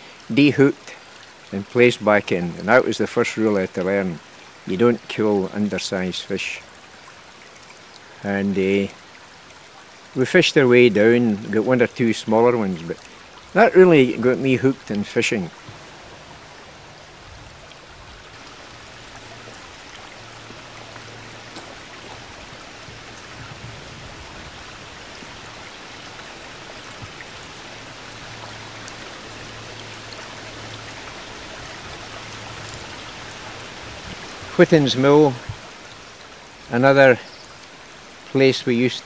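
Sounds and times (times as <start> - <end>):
river water running over stones: 0.0 - 39.0.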